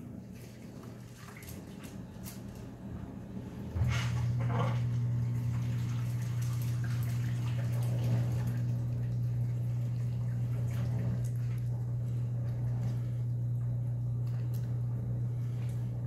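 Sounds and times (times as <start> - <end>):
loud steady low hum: 0.0 - 16.0.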